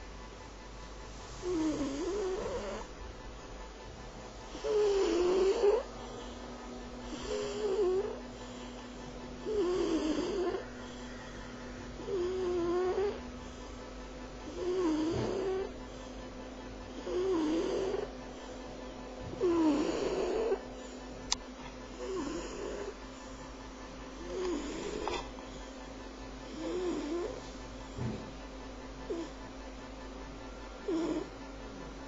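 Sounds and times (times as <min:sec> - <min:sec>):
cat snoring: 0:01.2 - 0:03.3, 0:04.4 - 0:21.3, 0:21.9 - 0:23.4, 0:24.1 - 0:25.8, 0:26.4 - 0:29.6, 0:30.4 - 0:31.9.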